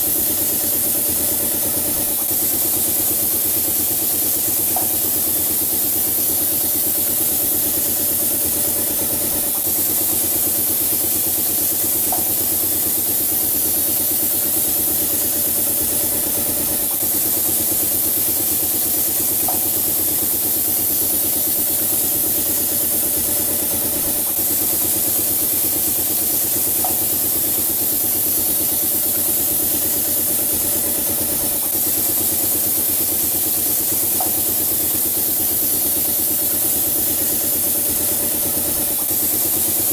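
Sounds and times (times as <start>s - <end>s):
motors and air compressor humming: 0.0s - 39.9s
paint spray gun hissing: 0.0s - 39.9s.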